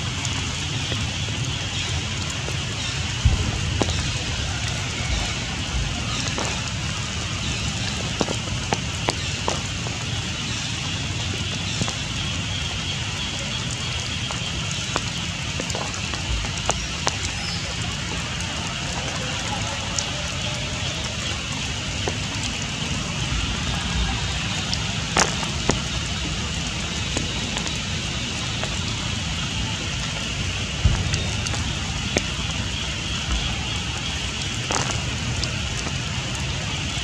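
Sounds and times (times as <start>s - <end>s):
rain on foliage: 0.0s - 37.0s
water drips: 0.0s - 37.0s.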